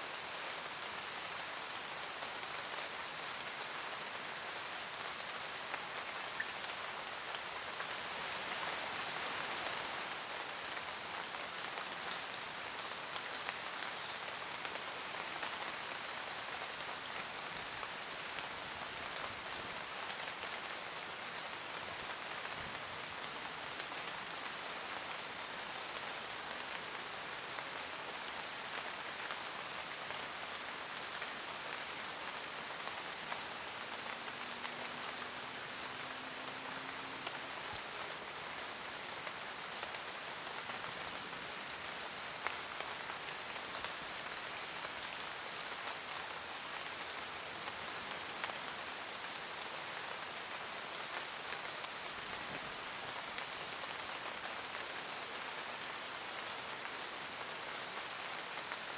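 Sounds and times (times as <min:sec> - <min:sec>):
raindrops ticking on leaves: 0:00.1 - 0:58.9.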